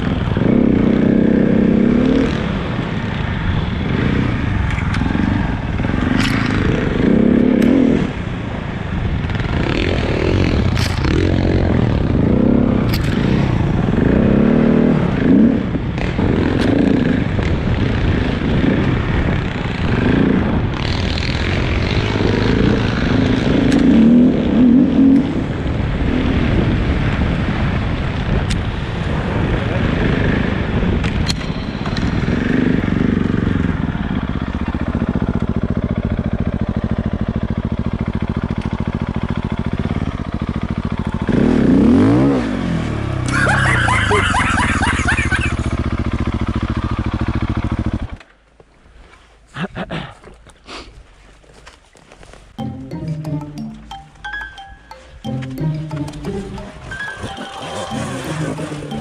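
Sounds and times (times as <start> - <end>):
motorcycle engine revving: 0.0 - 48.4, 56.0 - 59.0.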